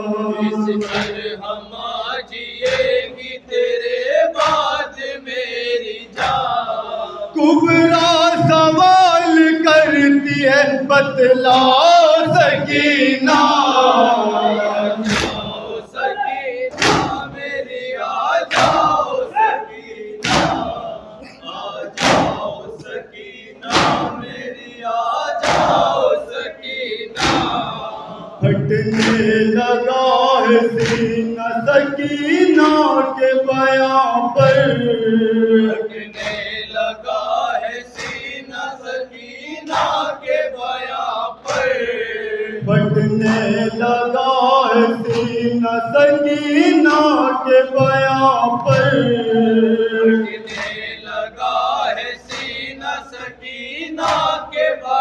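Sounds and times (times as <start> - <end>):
lead reciter chanting: 0.0 - 55.0
men chanting a lament: 0.0 - 55.0.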